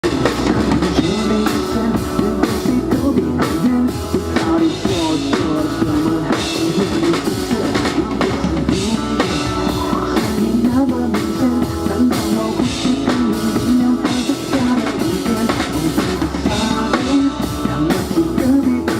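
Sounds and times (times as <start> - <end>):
drum kit steady beat: 0.0 - 18.9
live rock band playing: 0.0 - 18.9.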